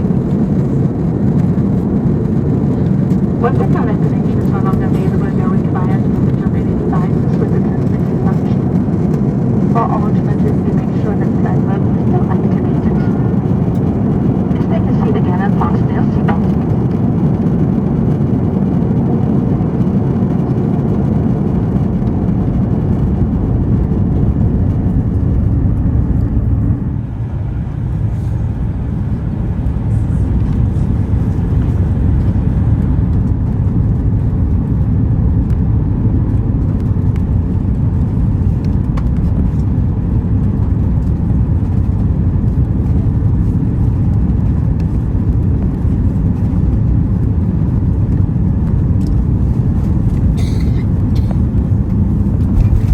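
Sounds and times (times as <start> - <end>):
airliner cabin engine drone: 0.0 - 52.9.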